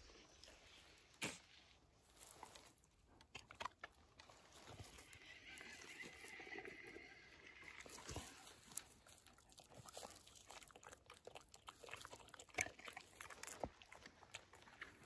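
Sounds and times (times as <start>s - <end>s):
dogs crunching treats: 2.1s - 15.0s.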